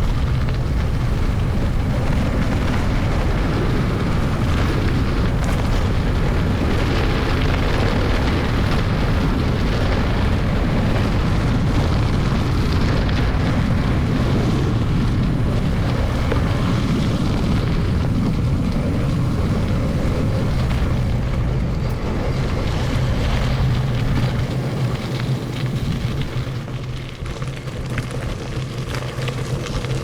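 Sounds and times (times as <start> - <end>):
low rumble: 0.0 - 28.9
wind buffeting microphone: 0.0 - 30.0.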